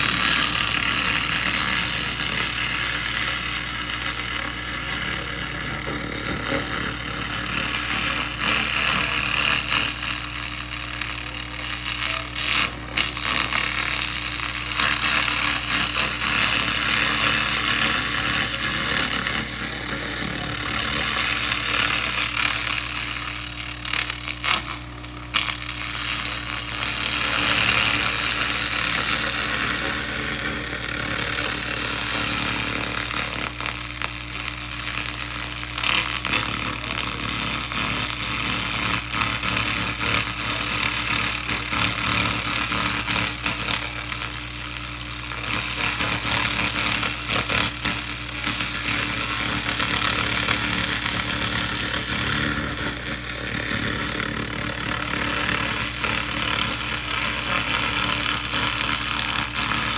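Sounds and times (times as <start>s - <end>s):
laser burning rust hissing: 0.0s - 59.9s.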